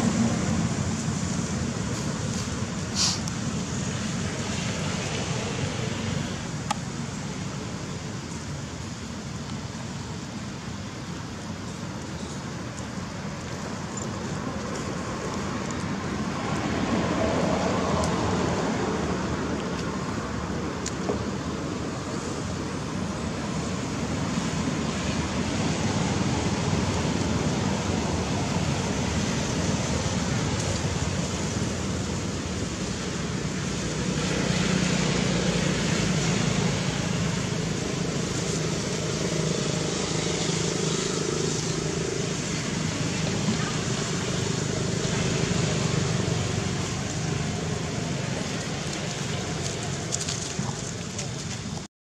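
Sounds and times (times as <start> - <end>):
distant road traffic: 0.0 - 51.9
low engine hum: 0.0 - 51.9.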